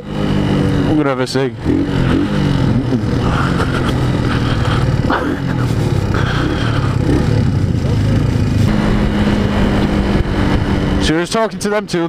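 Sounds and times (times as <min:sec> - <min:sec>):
motorcycle engine running at low revs: 0:00.0 - 0:11.9.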